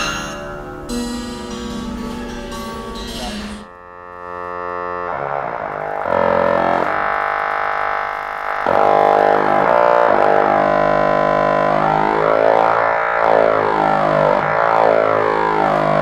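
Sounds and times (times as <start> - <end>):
buzzy electronic drone: 0.0 - 16.0.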